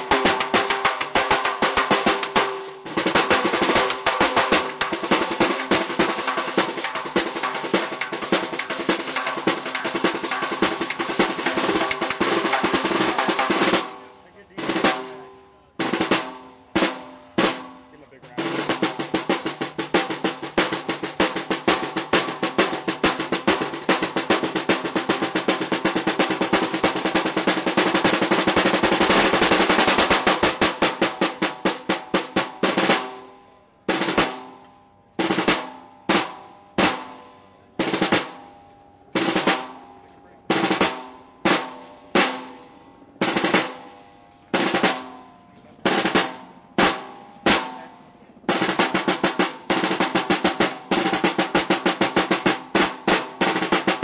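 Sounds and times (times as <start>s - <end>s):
snare drum rolls and strikes: 0.0s - 15.2s, 15.8s - 33.3s, 33.9s - 38.5s, 39.2s - 39.9s, 40.5s - 54.0s.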